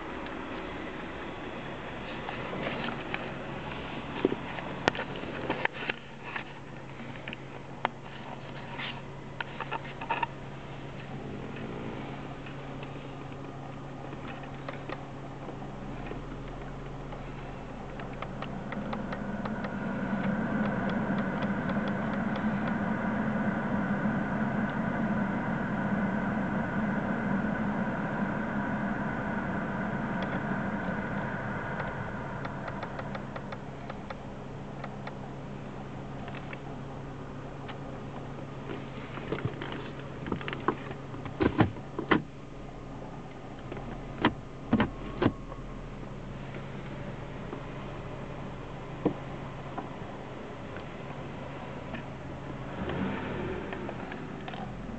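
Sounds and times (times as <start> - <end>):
ventilation blower hum: 0.0 - 54.9.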